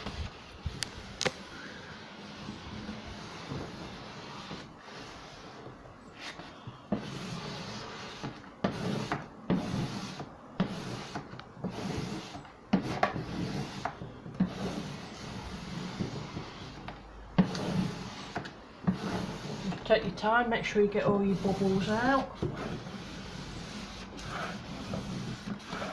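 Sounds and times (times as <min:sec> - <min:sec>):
wallpaper being rubbed and scraped: 0:00.0 - 0:25.9.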